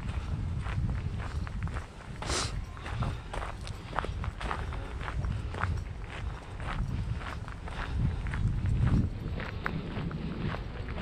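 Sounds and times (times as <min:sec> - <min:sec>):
footsteps walking: 0:00.0 - 0:11.0.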